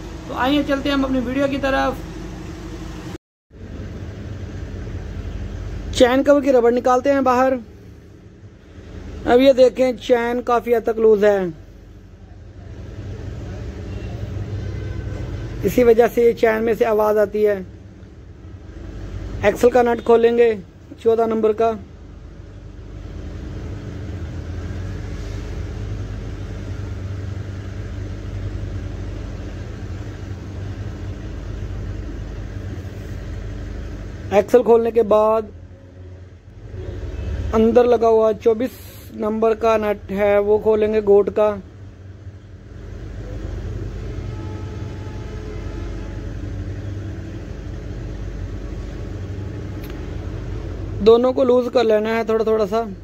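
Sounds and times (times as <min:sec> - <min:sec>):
engine rumbling: 0:00.0 - 0:53.0.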